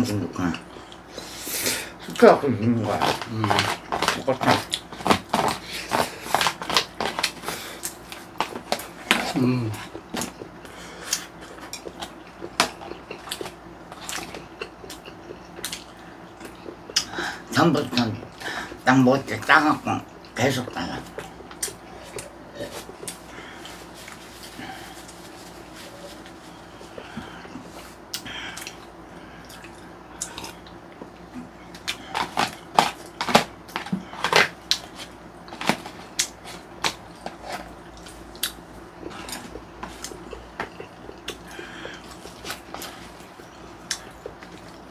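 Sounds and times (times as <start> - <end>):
chewing: 2.8 - 17.1, 20.2 - 44.9.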